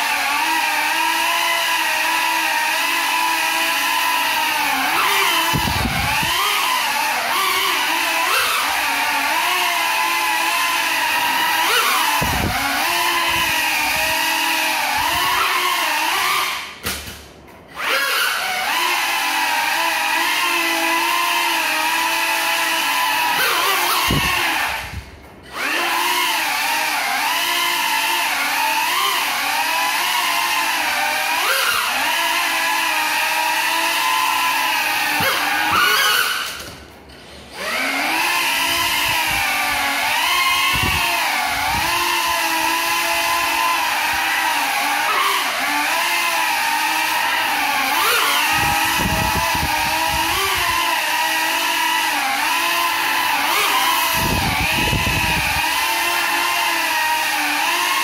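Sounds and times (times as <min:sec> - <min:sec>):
quadcopter motors whining: 0:00.0 - 0:58.0.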